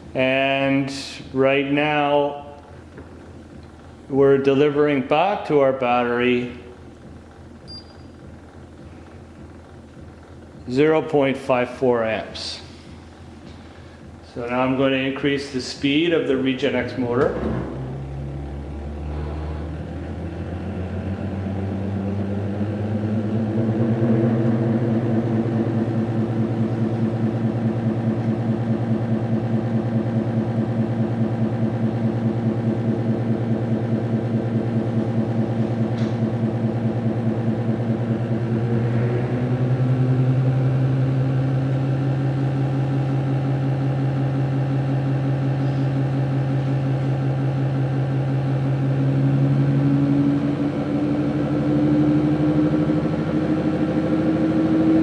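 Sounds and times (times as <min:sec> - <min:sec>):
stepper motor pulsing hum: 0:00.0 - 0:55.0.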